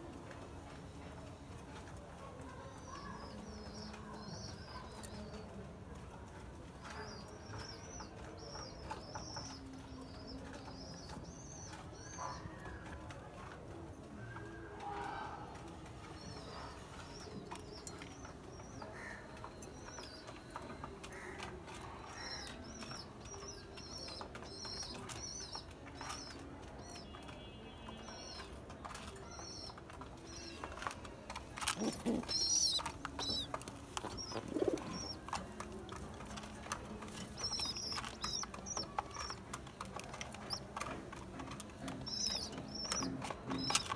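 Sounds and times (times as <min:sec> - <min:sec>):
pigeons pecking seed: 0:00.0 - 0:43.9.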